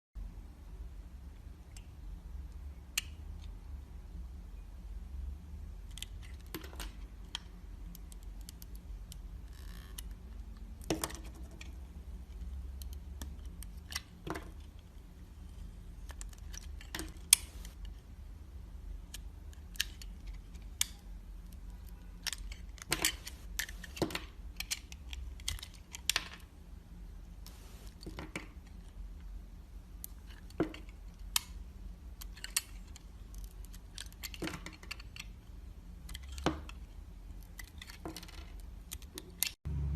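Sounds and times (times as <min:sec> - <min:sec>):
low steady hum: 0:00.2 - 0:39.9.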